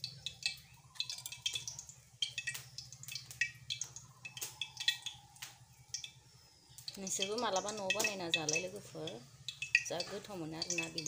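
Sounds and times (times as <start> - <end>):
leaves crackling and clicking: 0.0 - 11.0.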